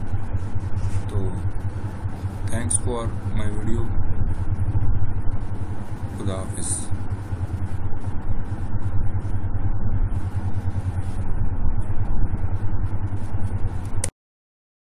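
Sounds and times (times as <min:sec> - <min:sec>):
rumbling background noise: 0:00.0 - 0:14.1
steady low hum: 0:00.0 - 0:14.1.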